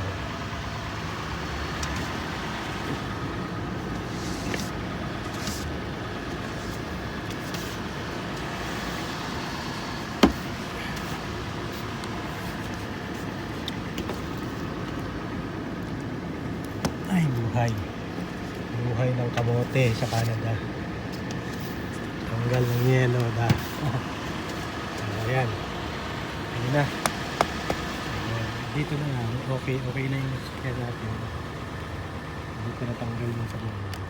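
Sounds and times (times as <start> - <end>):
car engine humming: 0.0 - 34.0.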